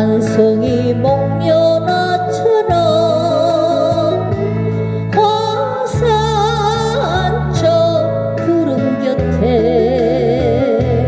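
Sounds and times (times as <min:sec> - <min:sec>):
backing track with bass notes: 0:00.0 - 0:11.0
woman singing into a microphone: 0:00.0 - 0:11.0.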